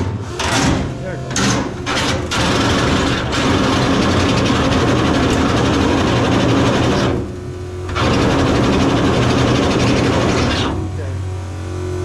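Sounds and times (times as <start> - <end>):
motor running loudly: 0.0 - 12.0.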